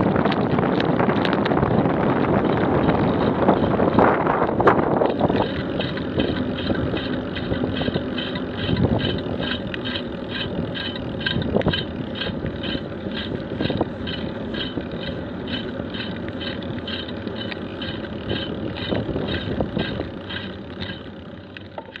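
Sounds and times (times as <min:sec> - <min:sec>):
wind on microphone: 0:00.0 - 0:21.1
bicycle tyres on tarmac: 0:00.0 - 0:22.0.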